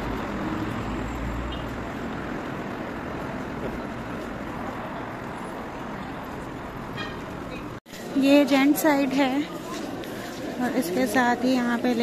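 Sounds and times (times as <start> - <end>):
outdoor traffic noise: 0.0 - 12.0.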